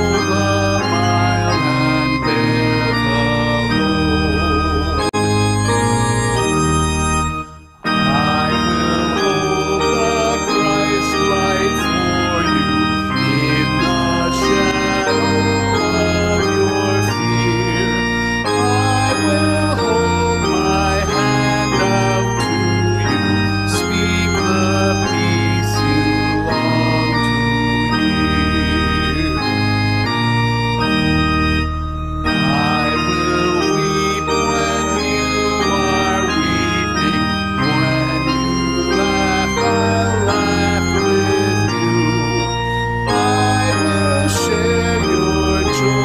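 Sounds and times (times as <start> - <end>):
man singing: 0.0 - 5.2, 7.9 - 29.6, 32.3 - 46.0
organ playing a hymn: 0.0 - 46.0.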